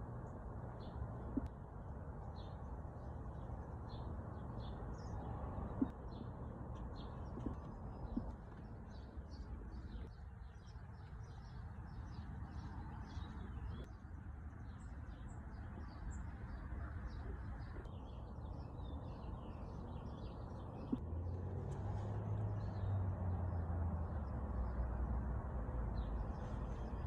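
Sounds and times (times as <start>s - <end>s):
small songbirds chirping: 0.0s - 27.0s.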